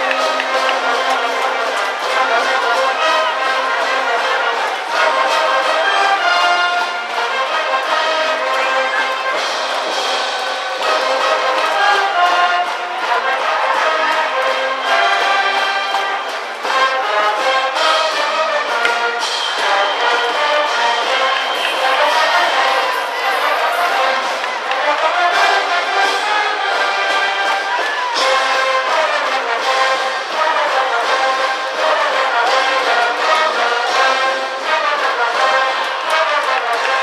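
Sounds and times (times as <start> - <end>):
brass band playing: 0.0 - 37.0.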